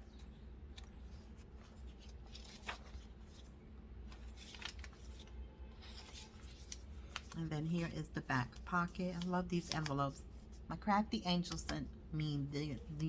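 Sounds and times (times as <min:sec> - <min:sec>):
paper pages rustling: 0:00.0 - 0:10.7
low steady hum: 0:00.0 - 0:13.0.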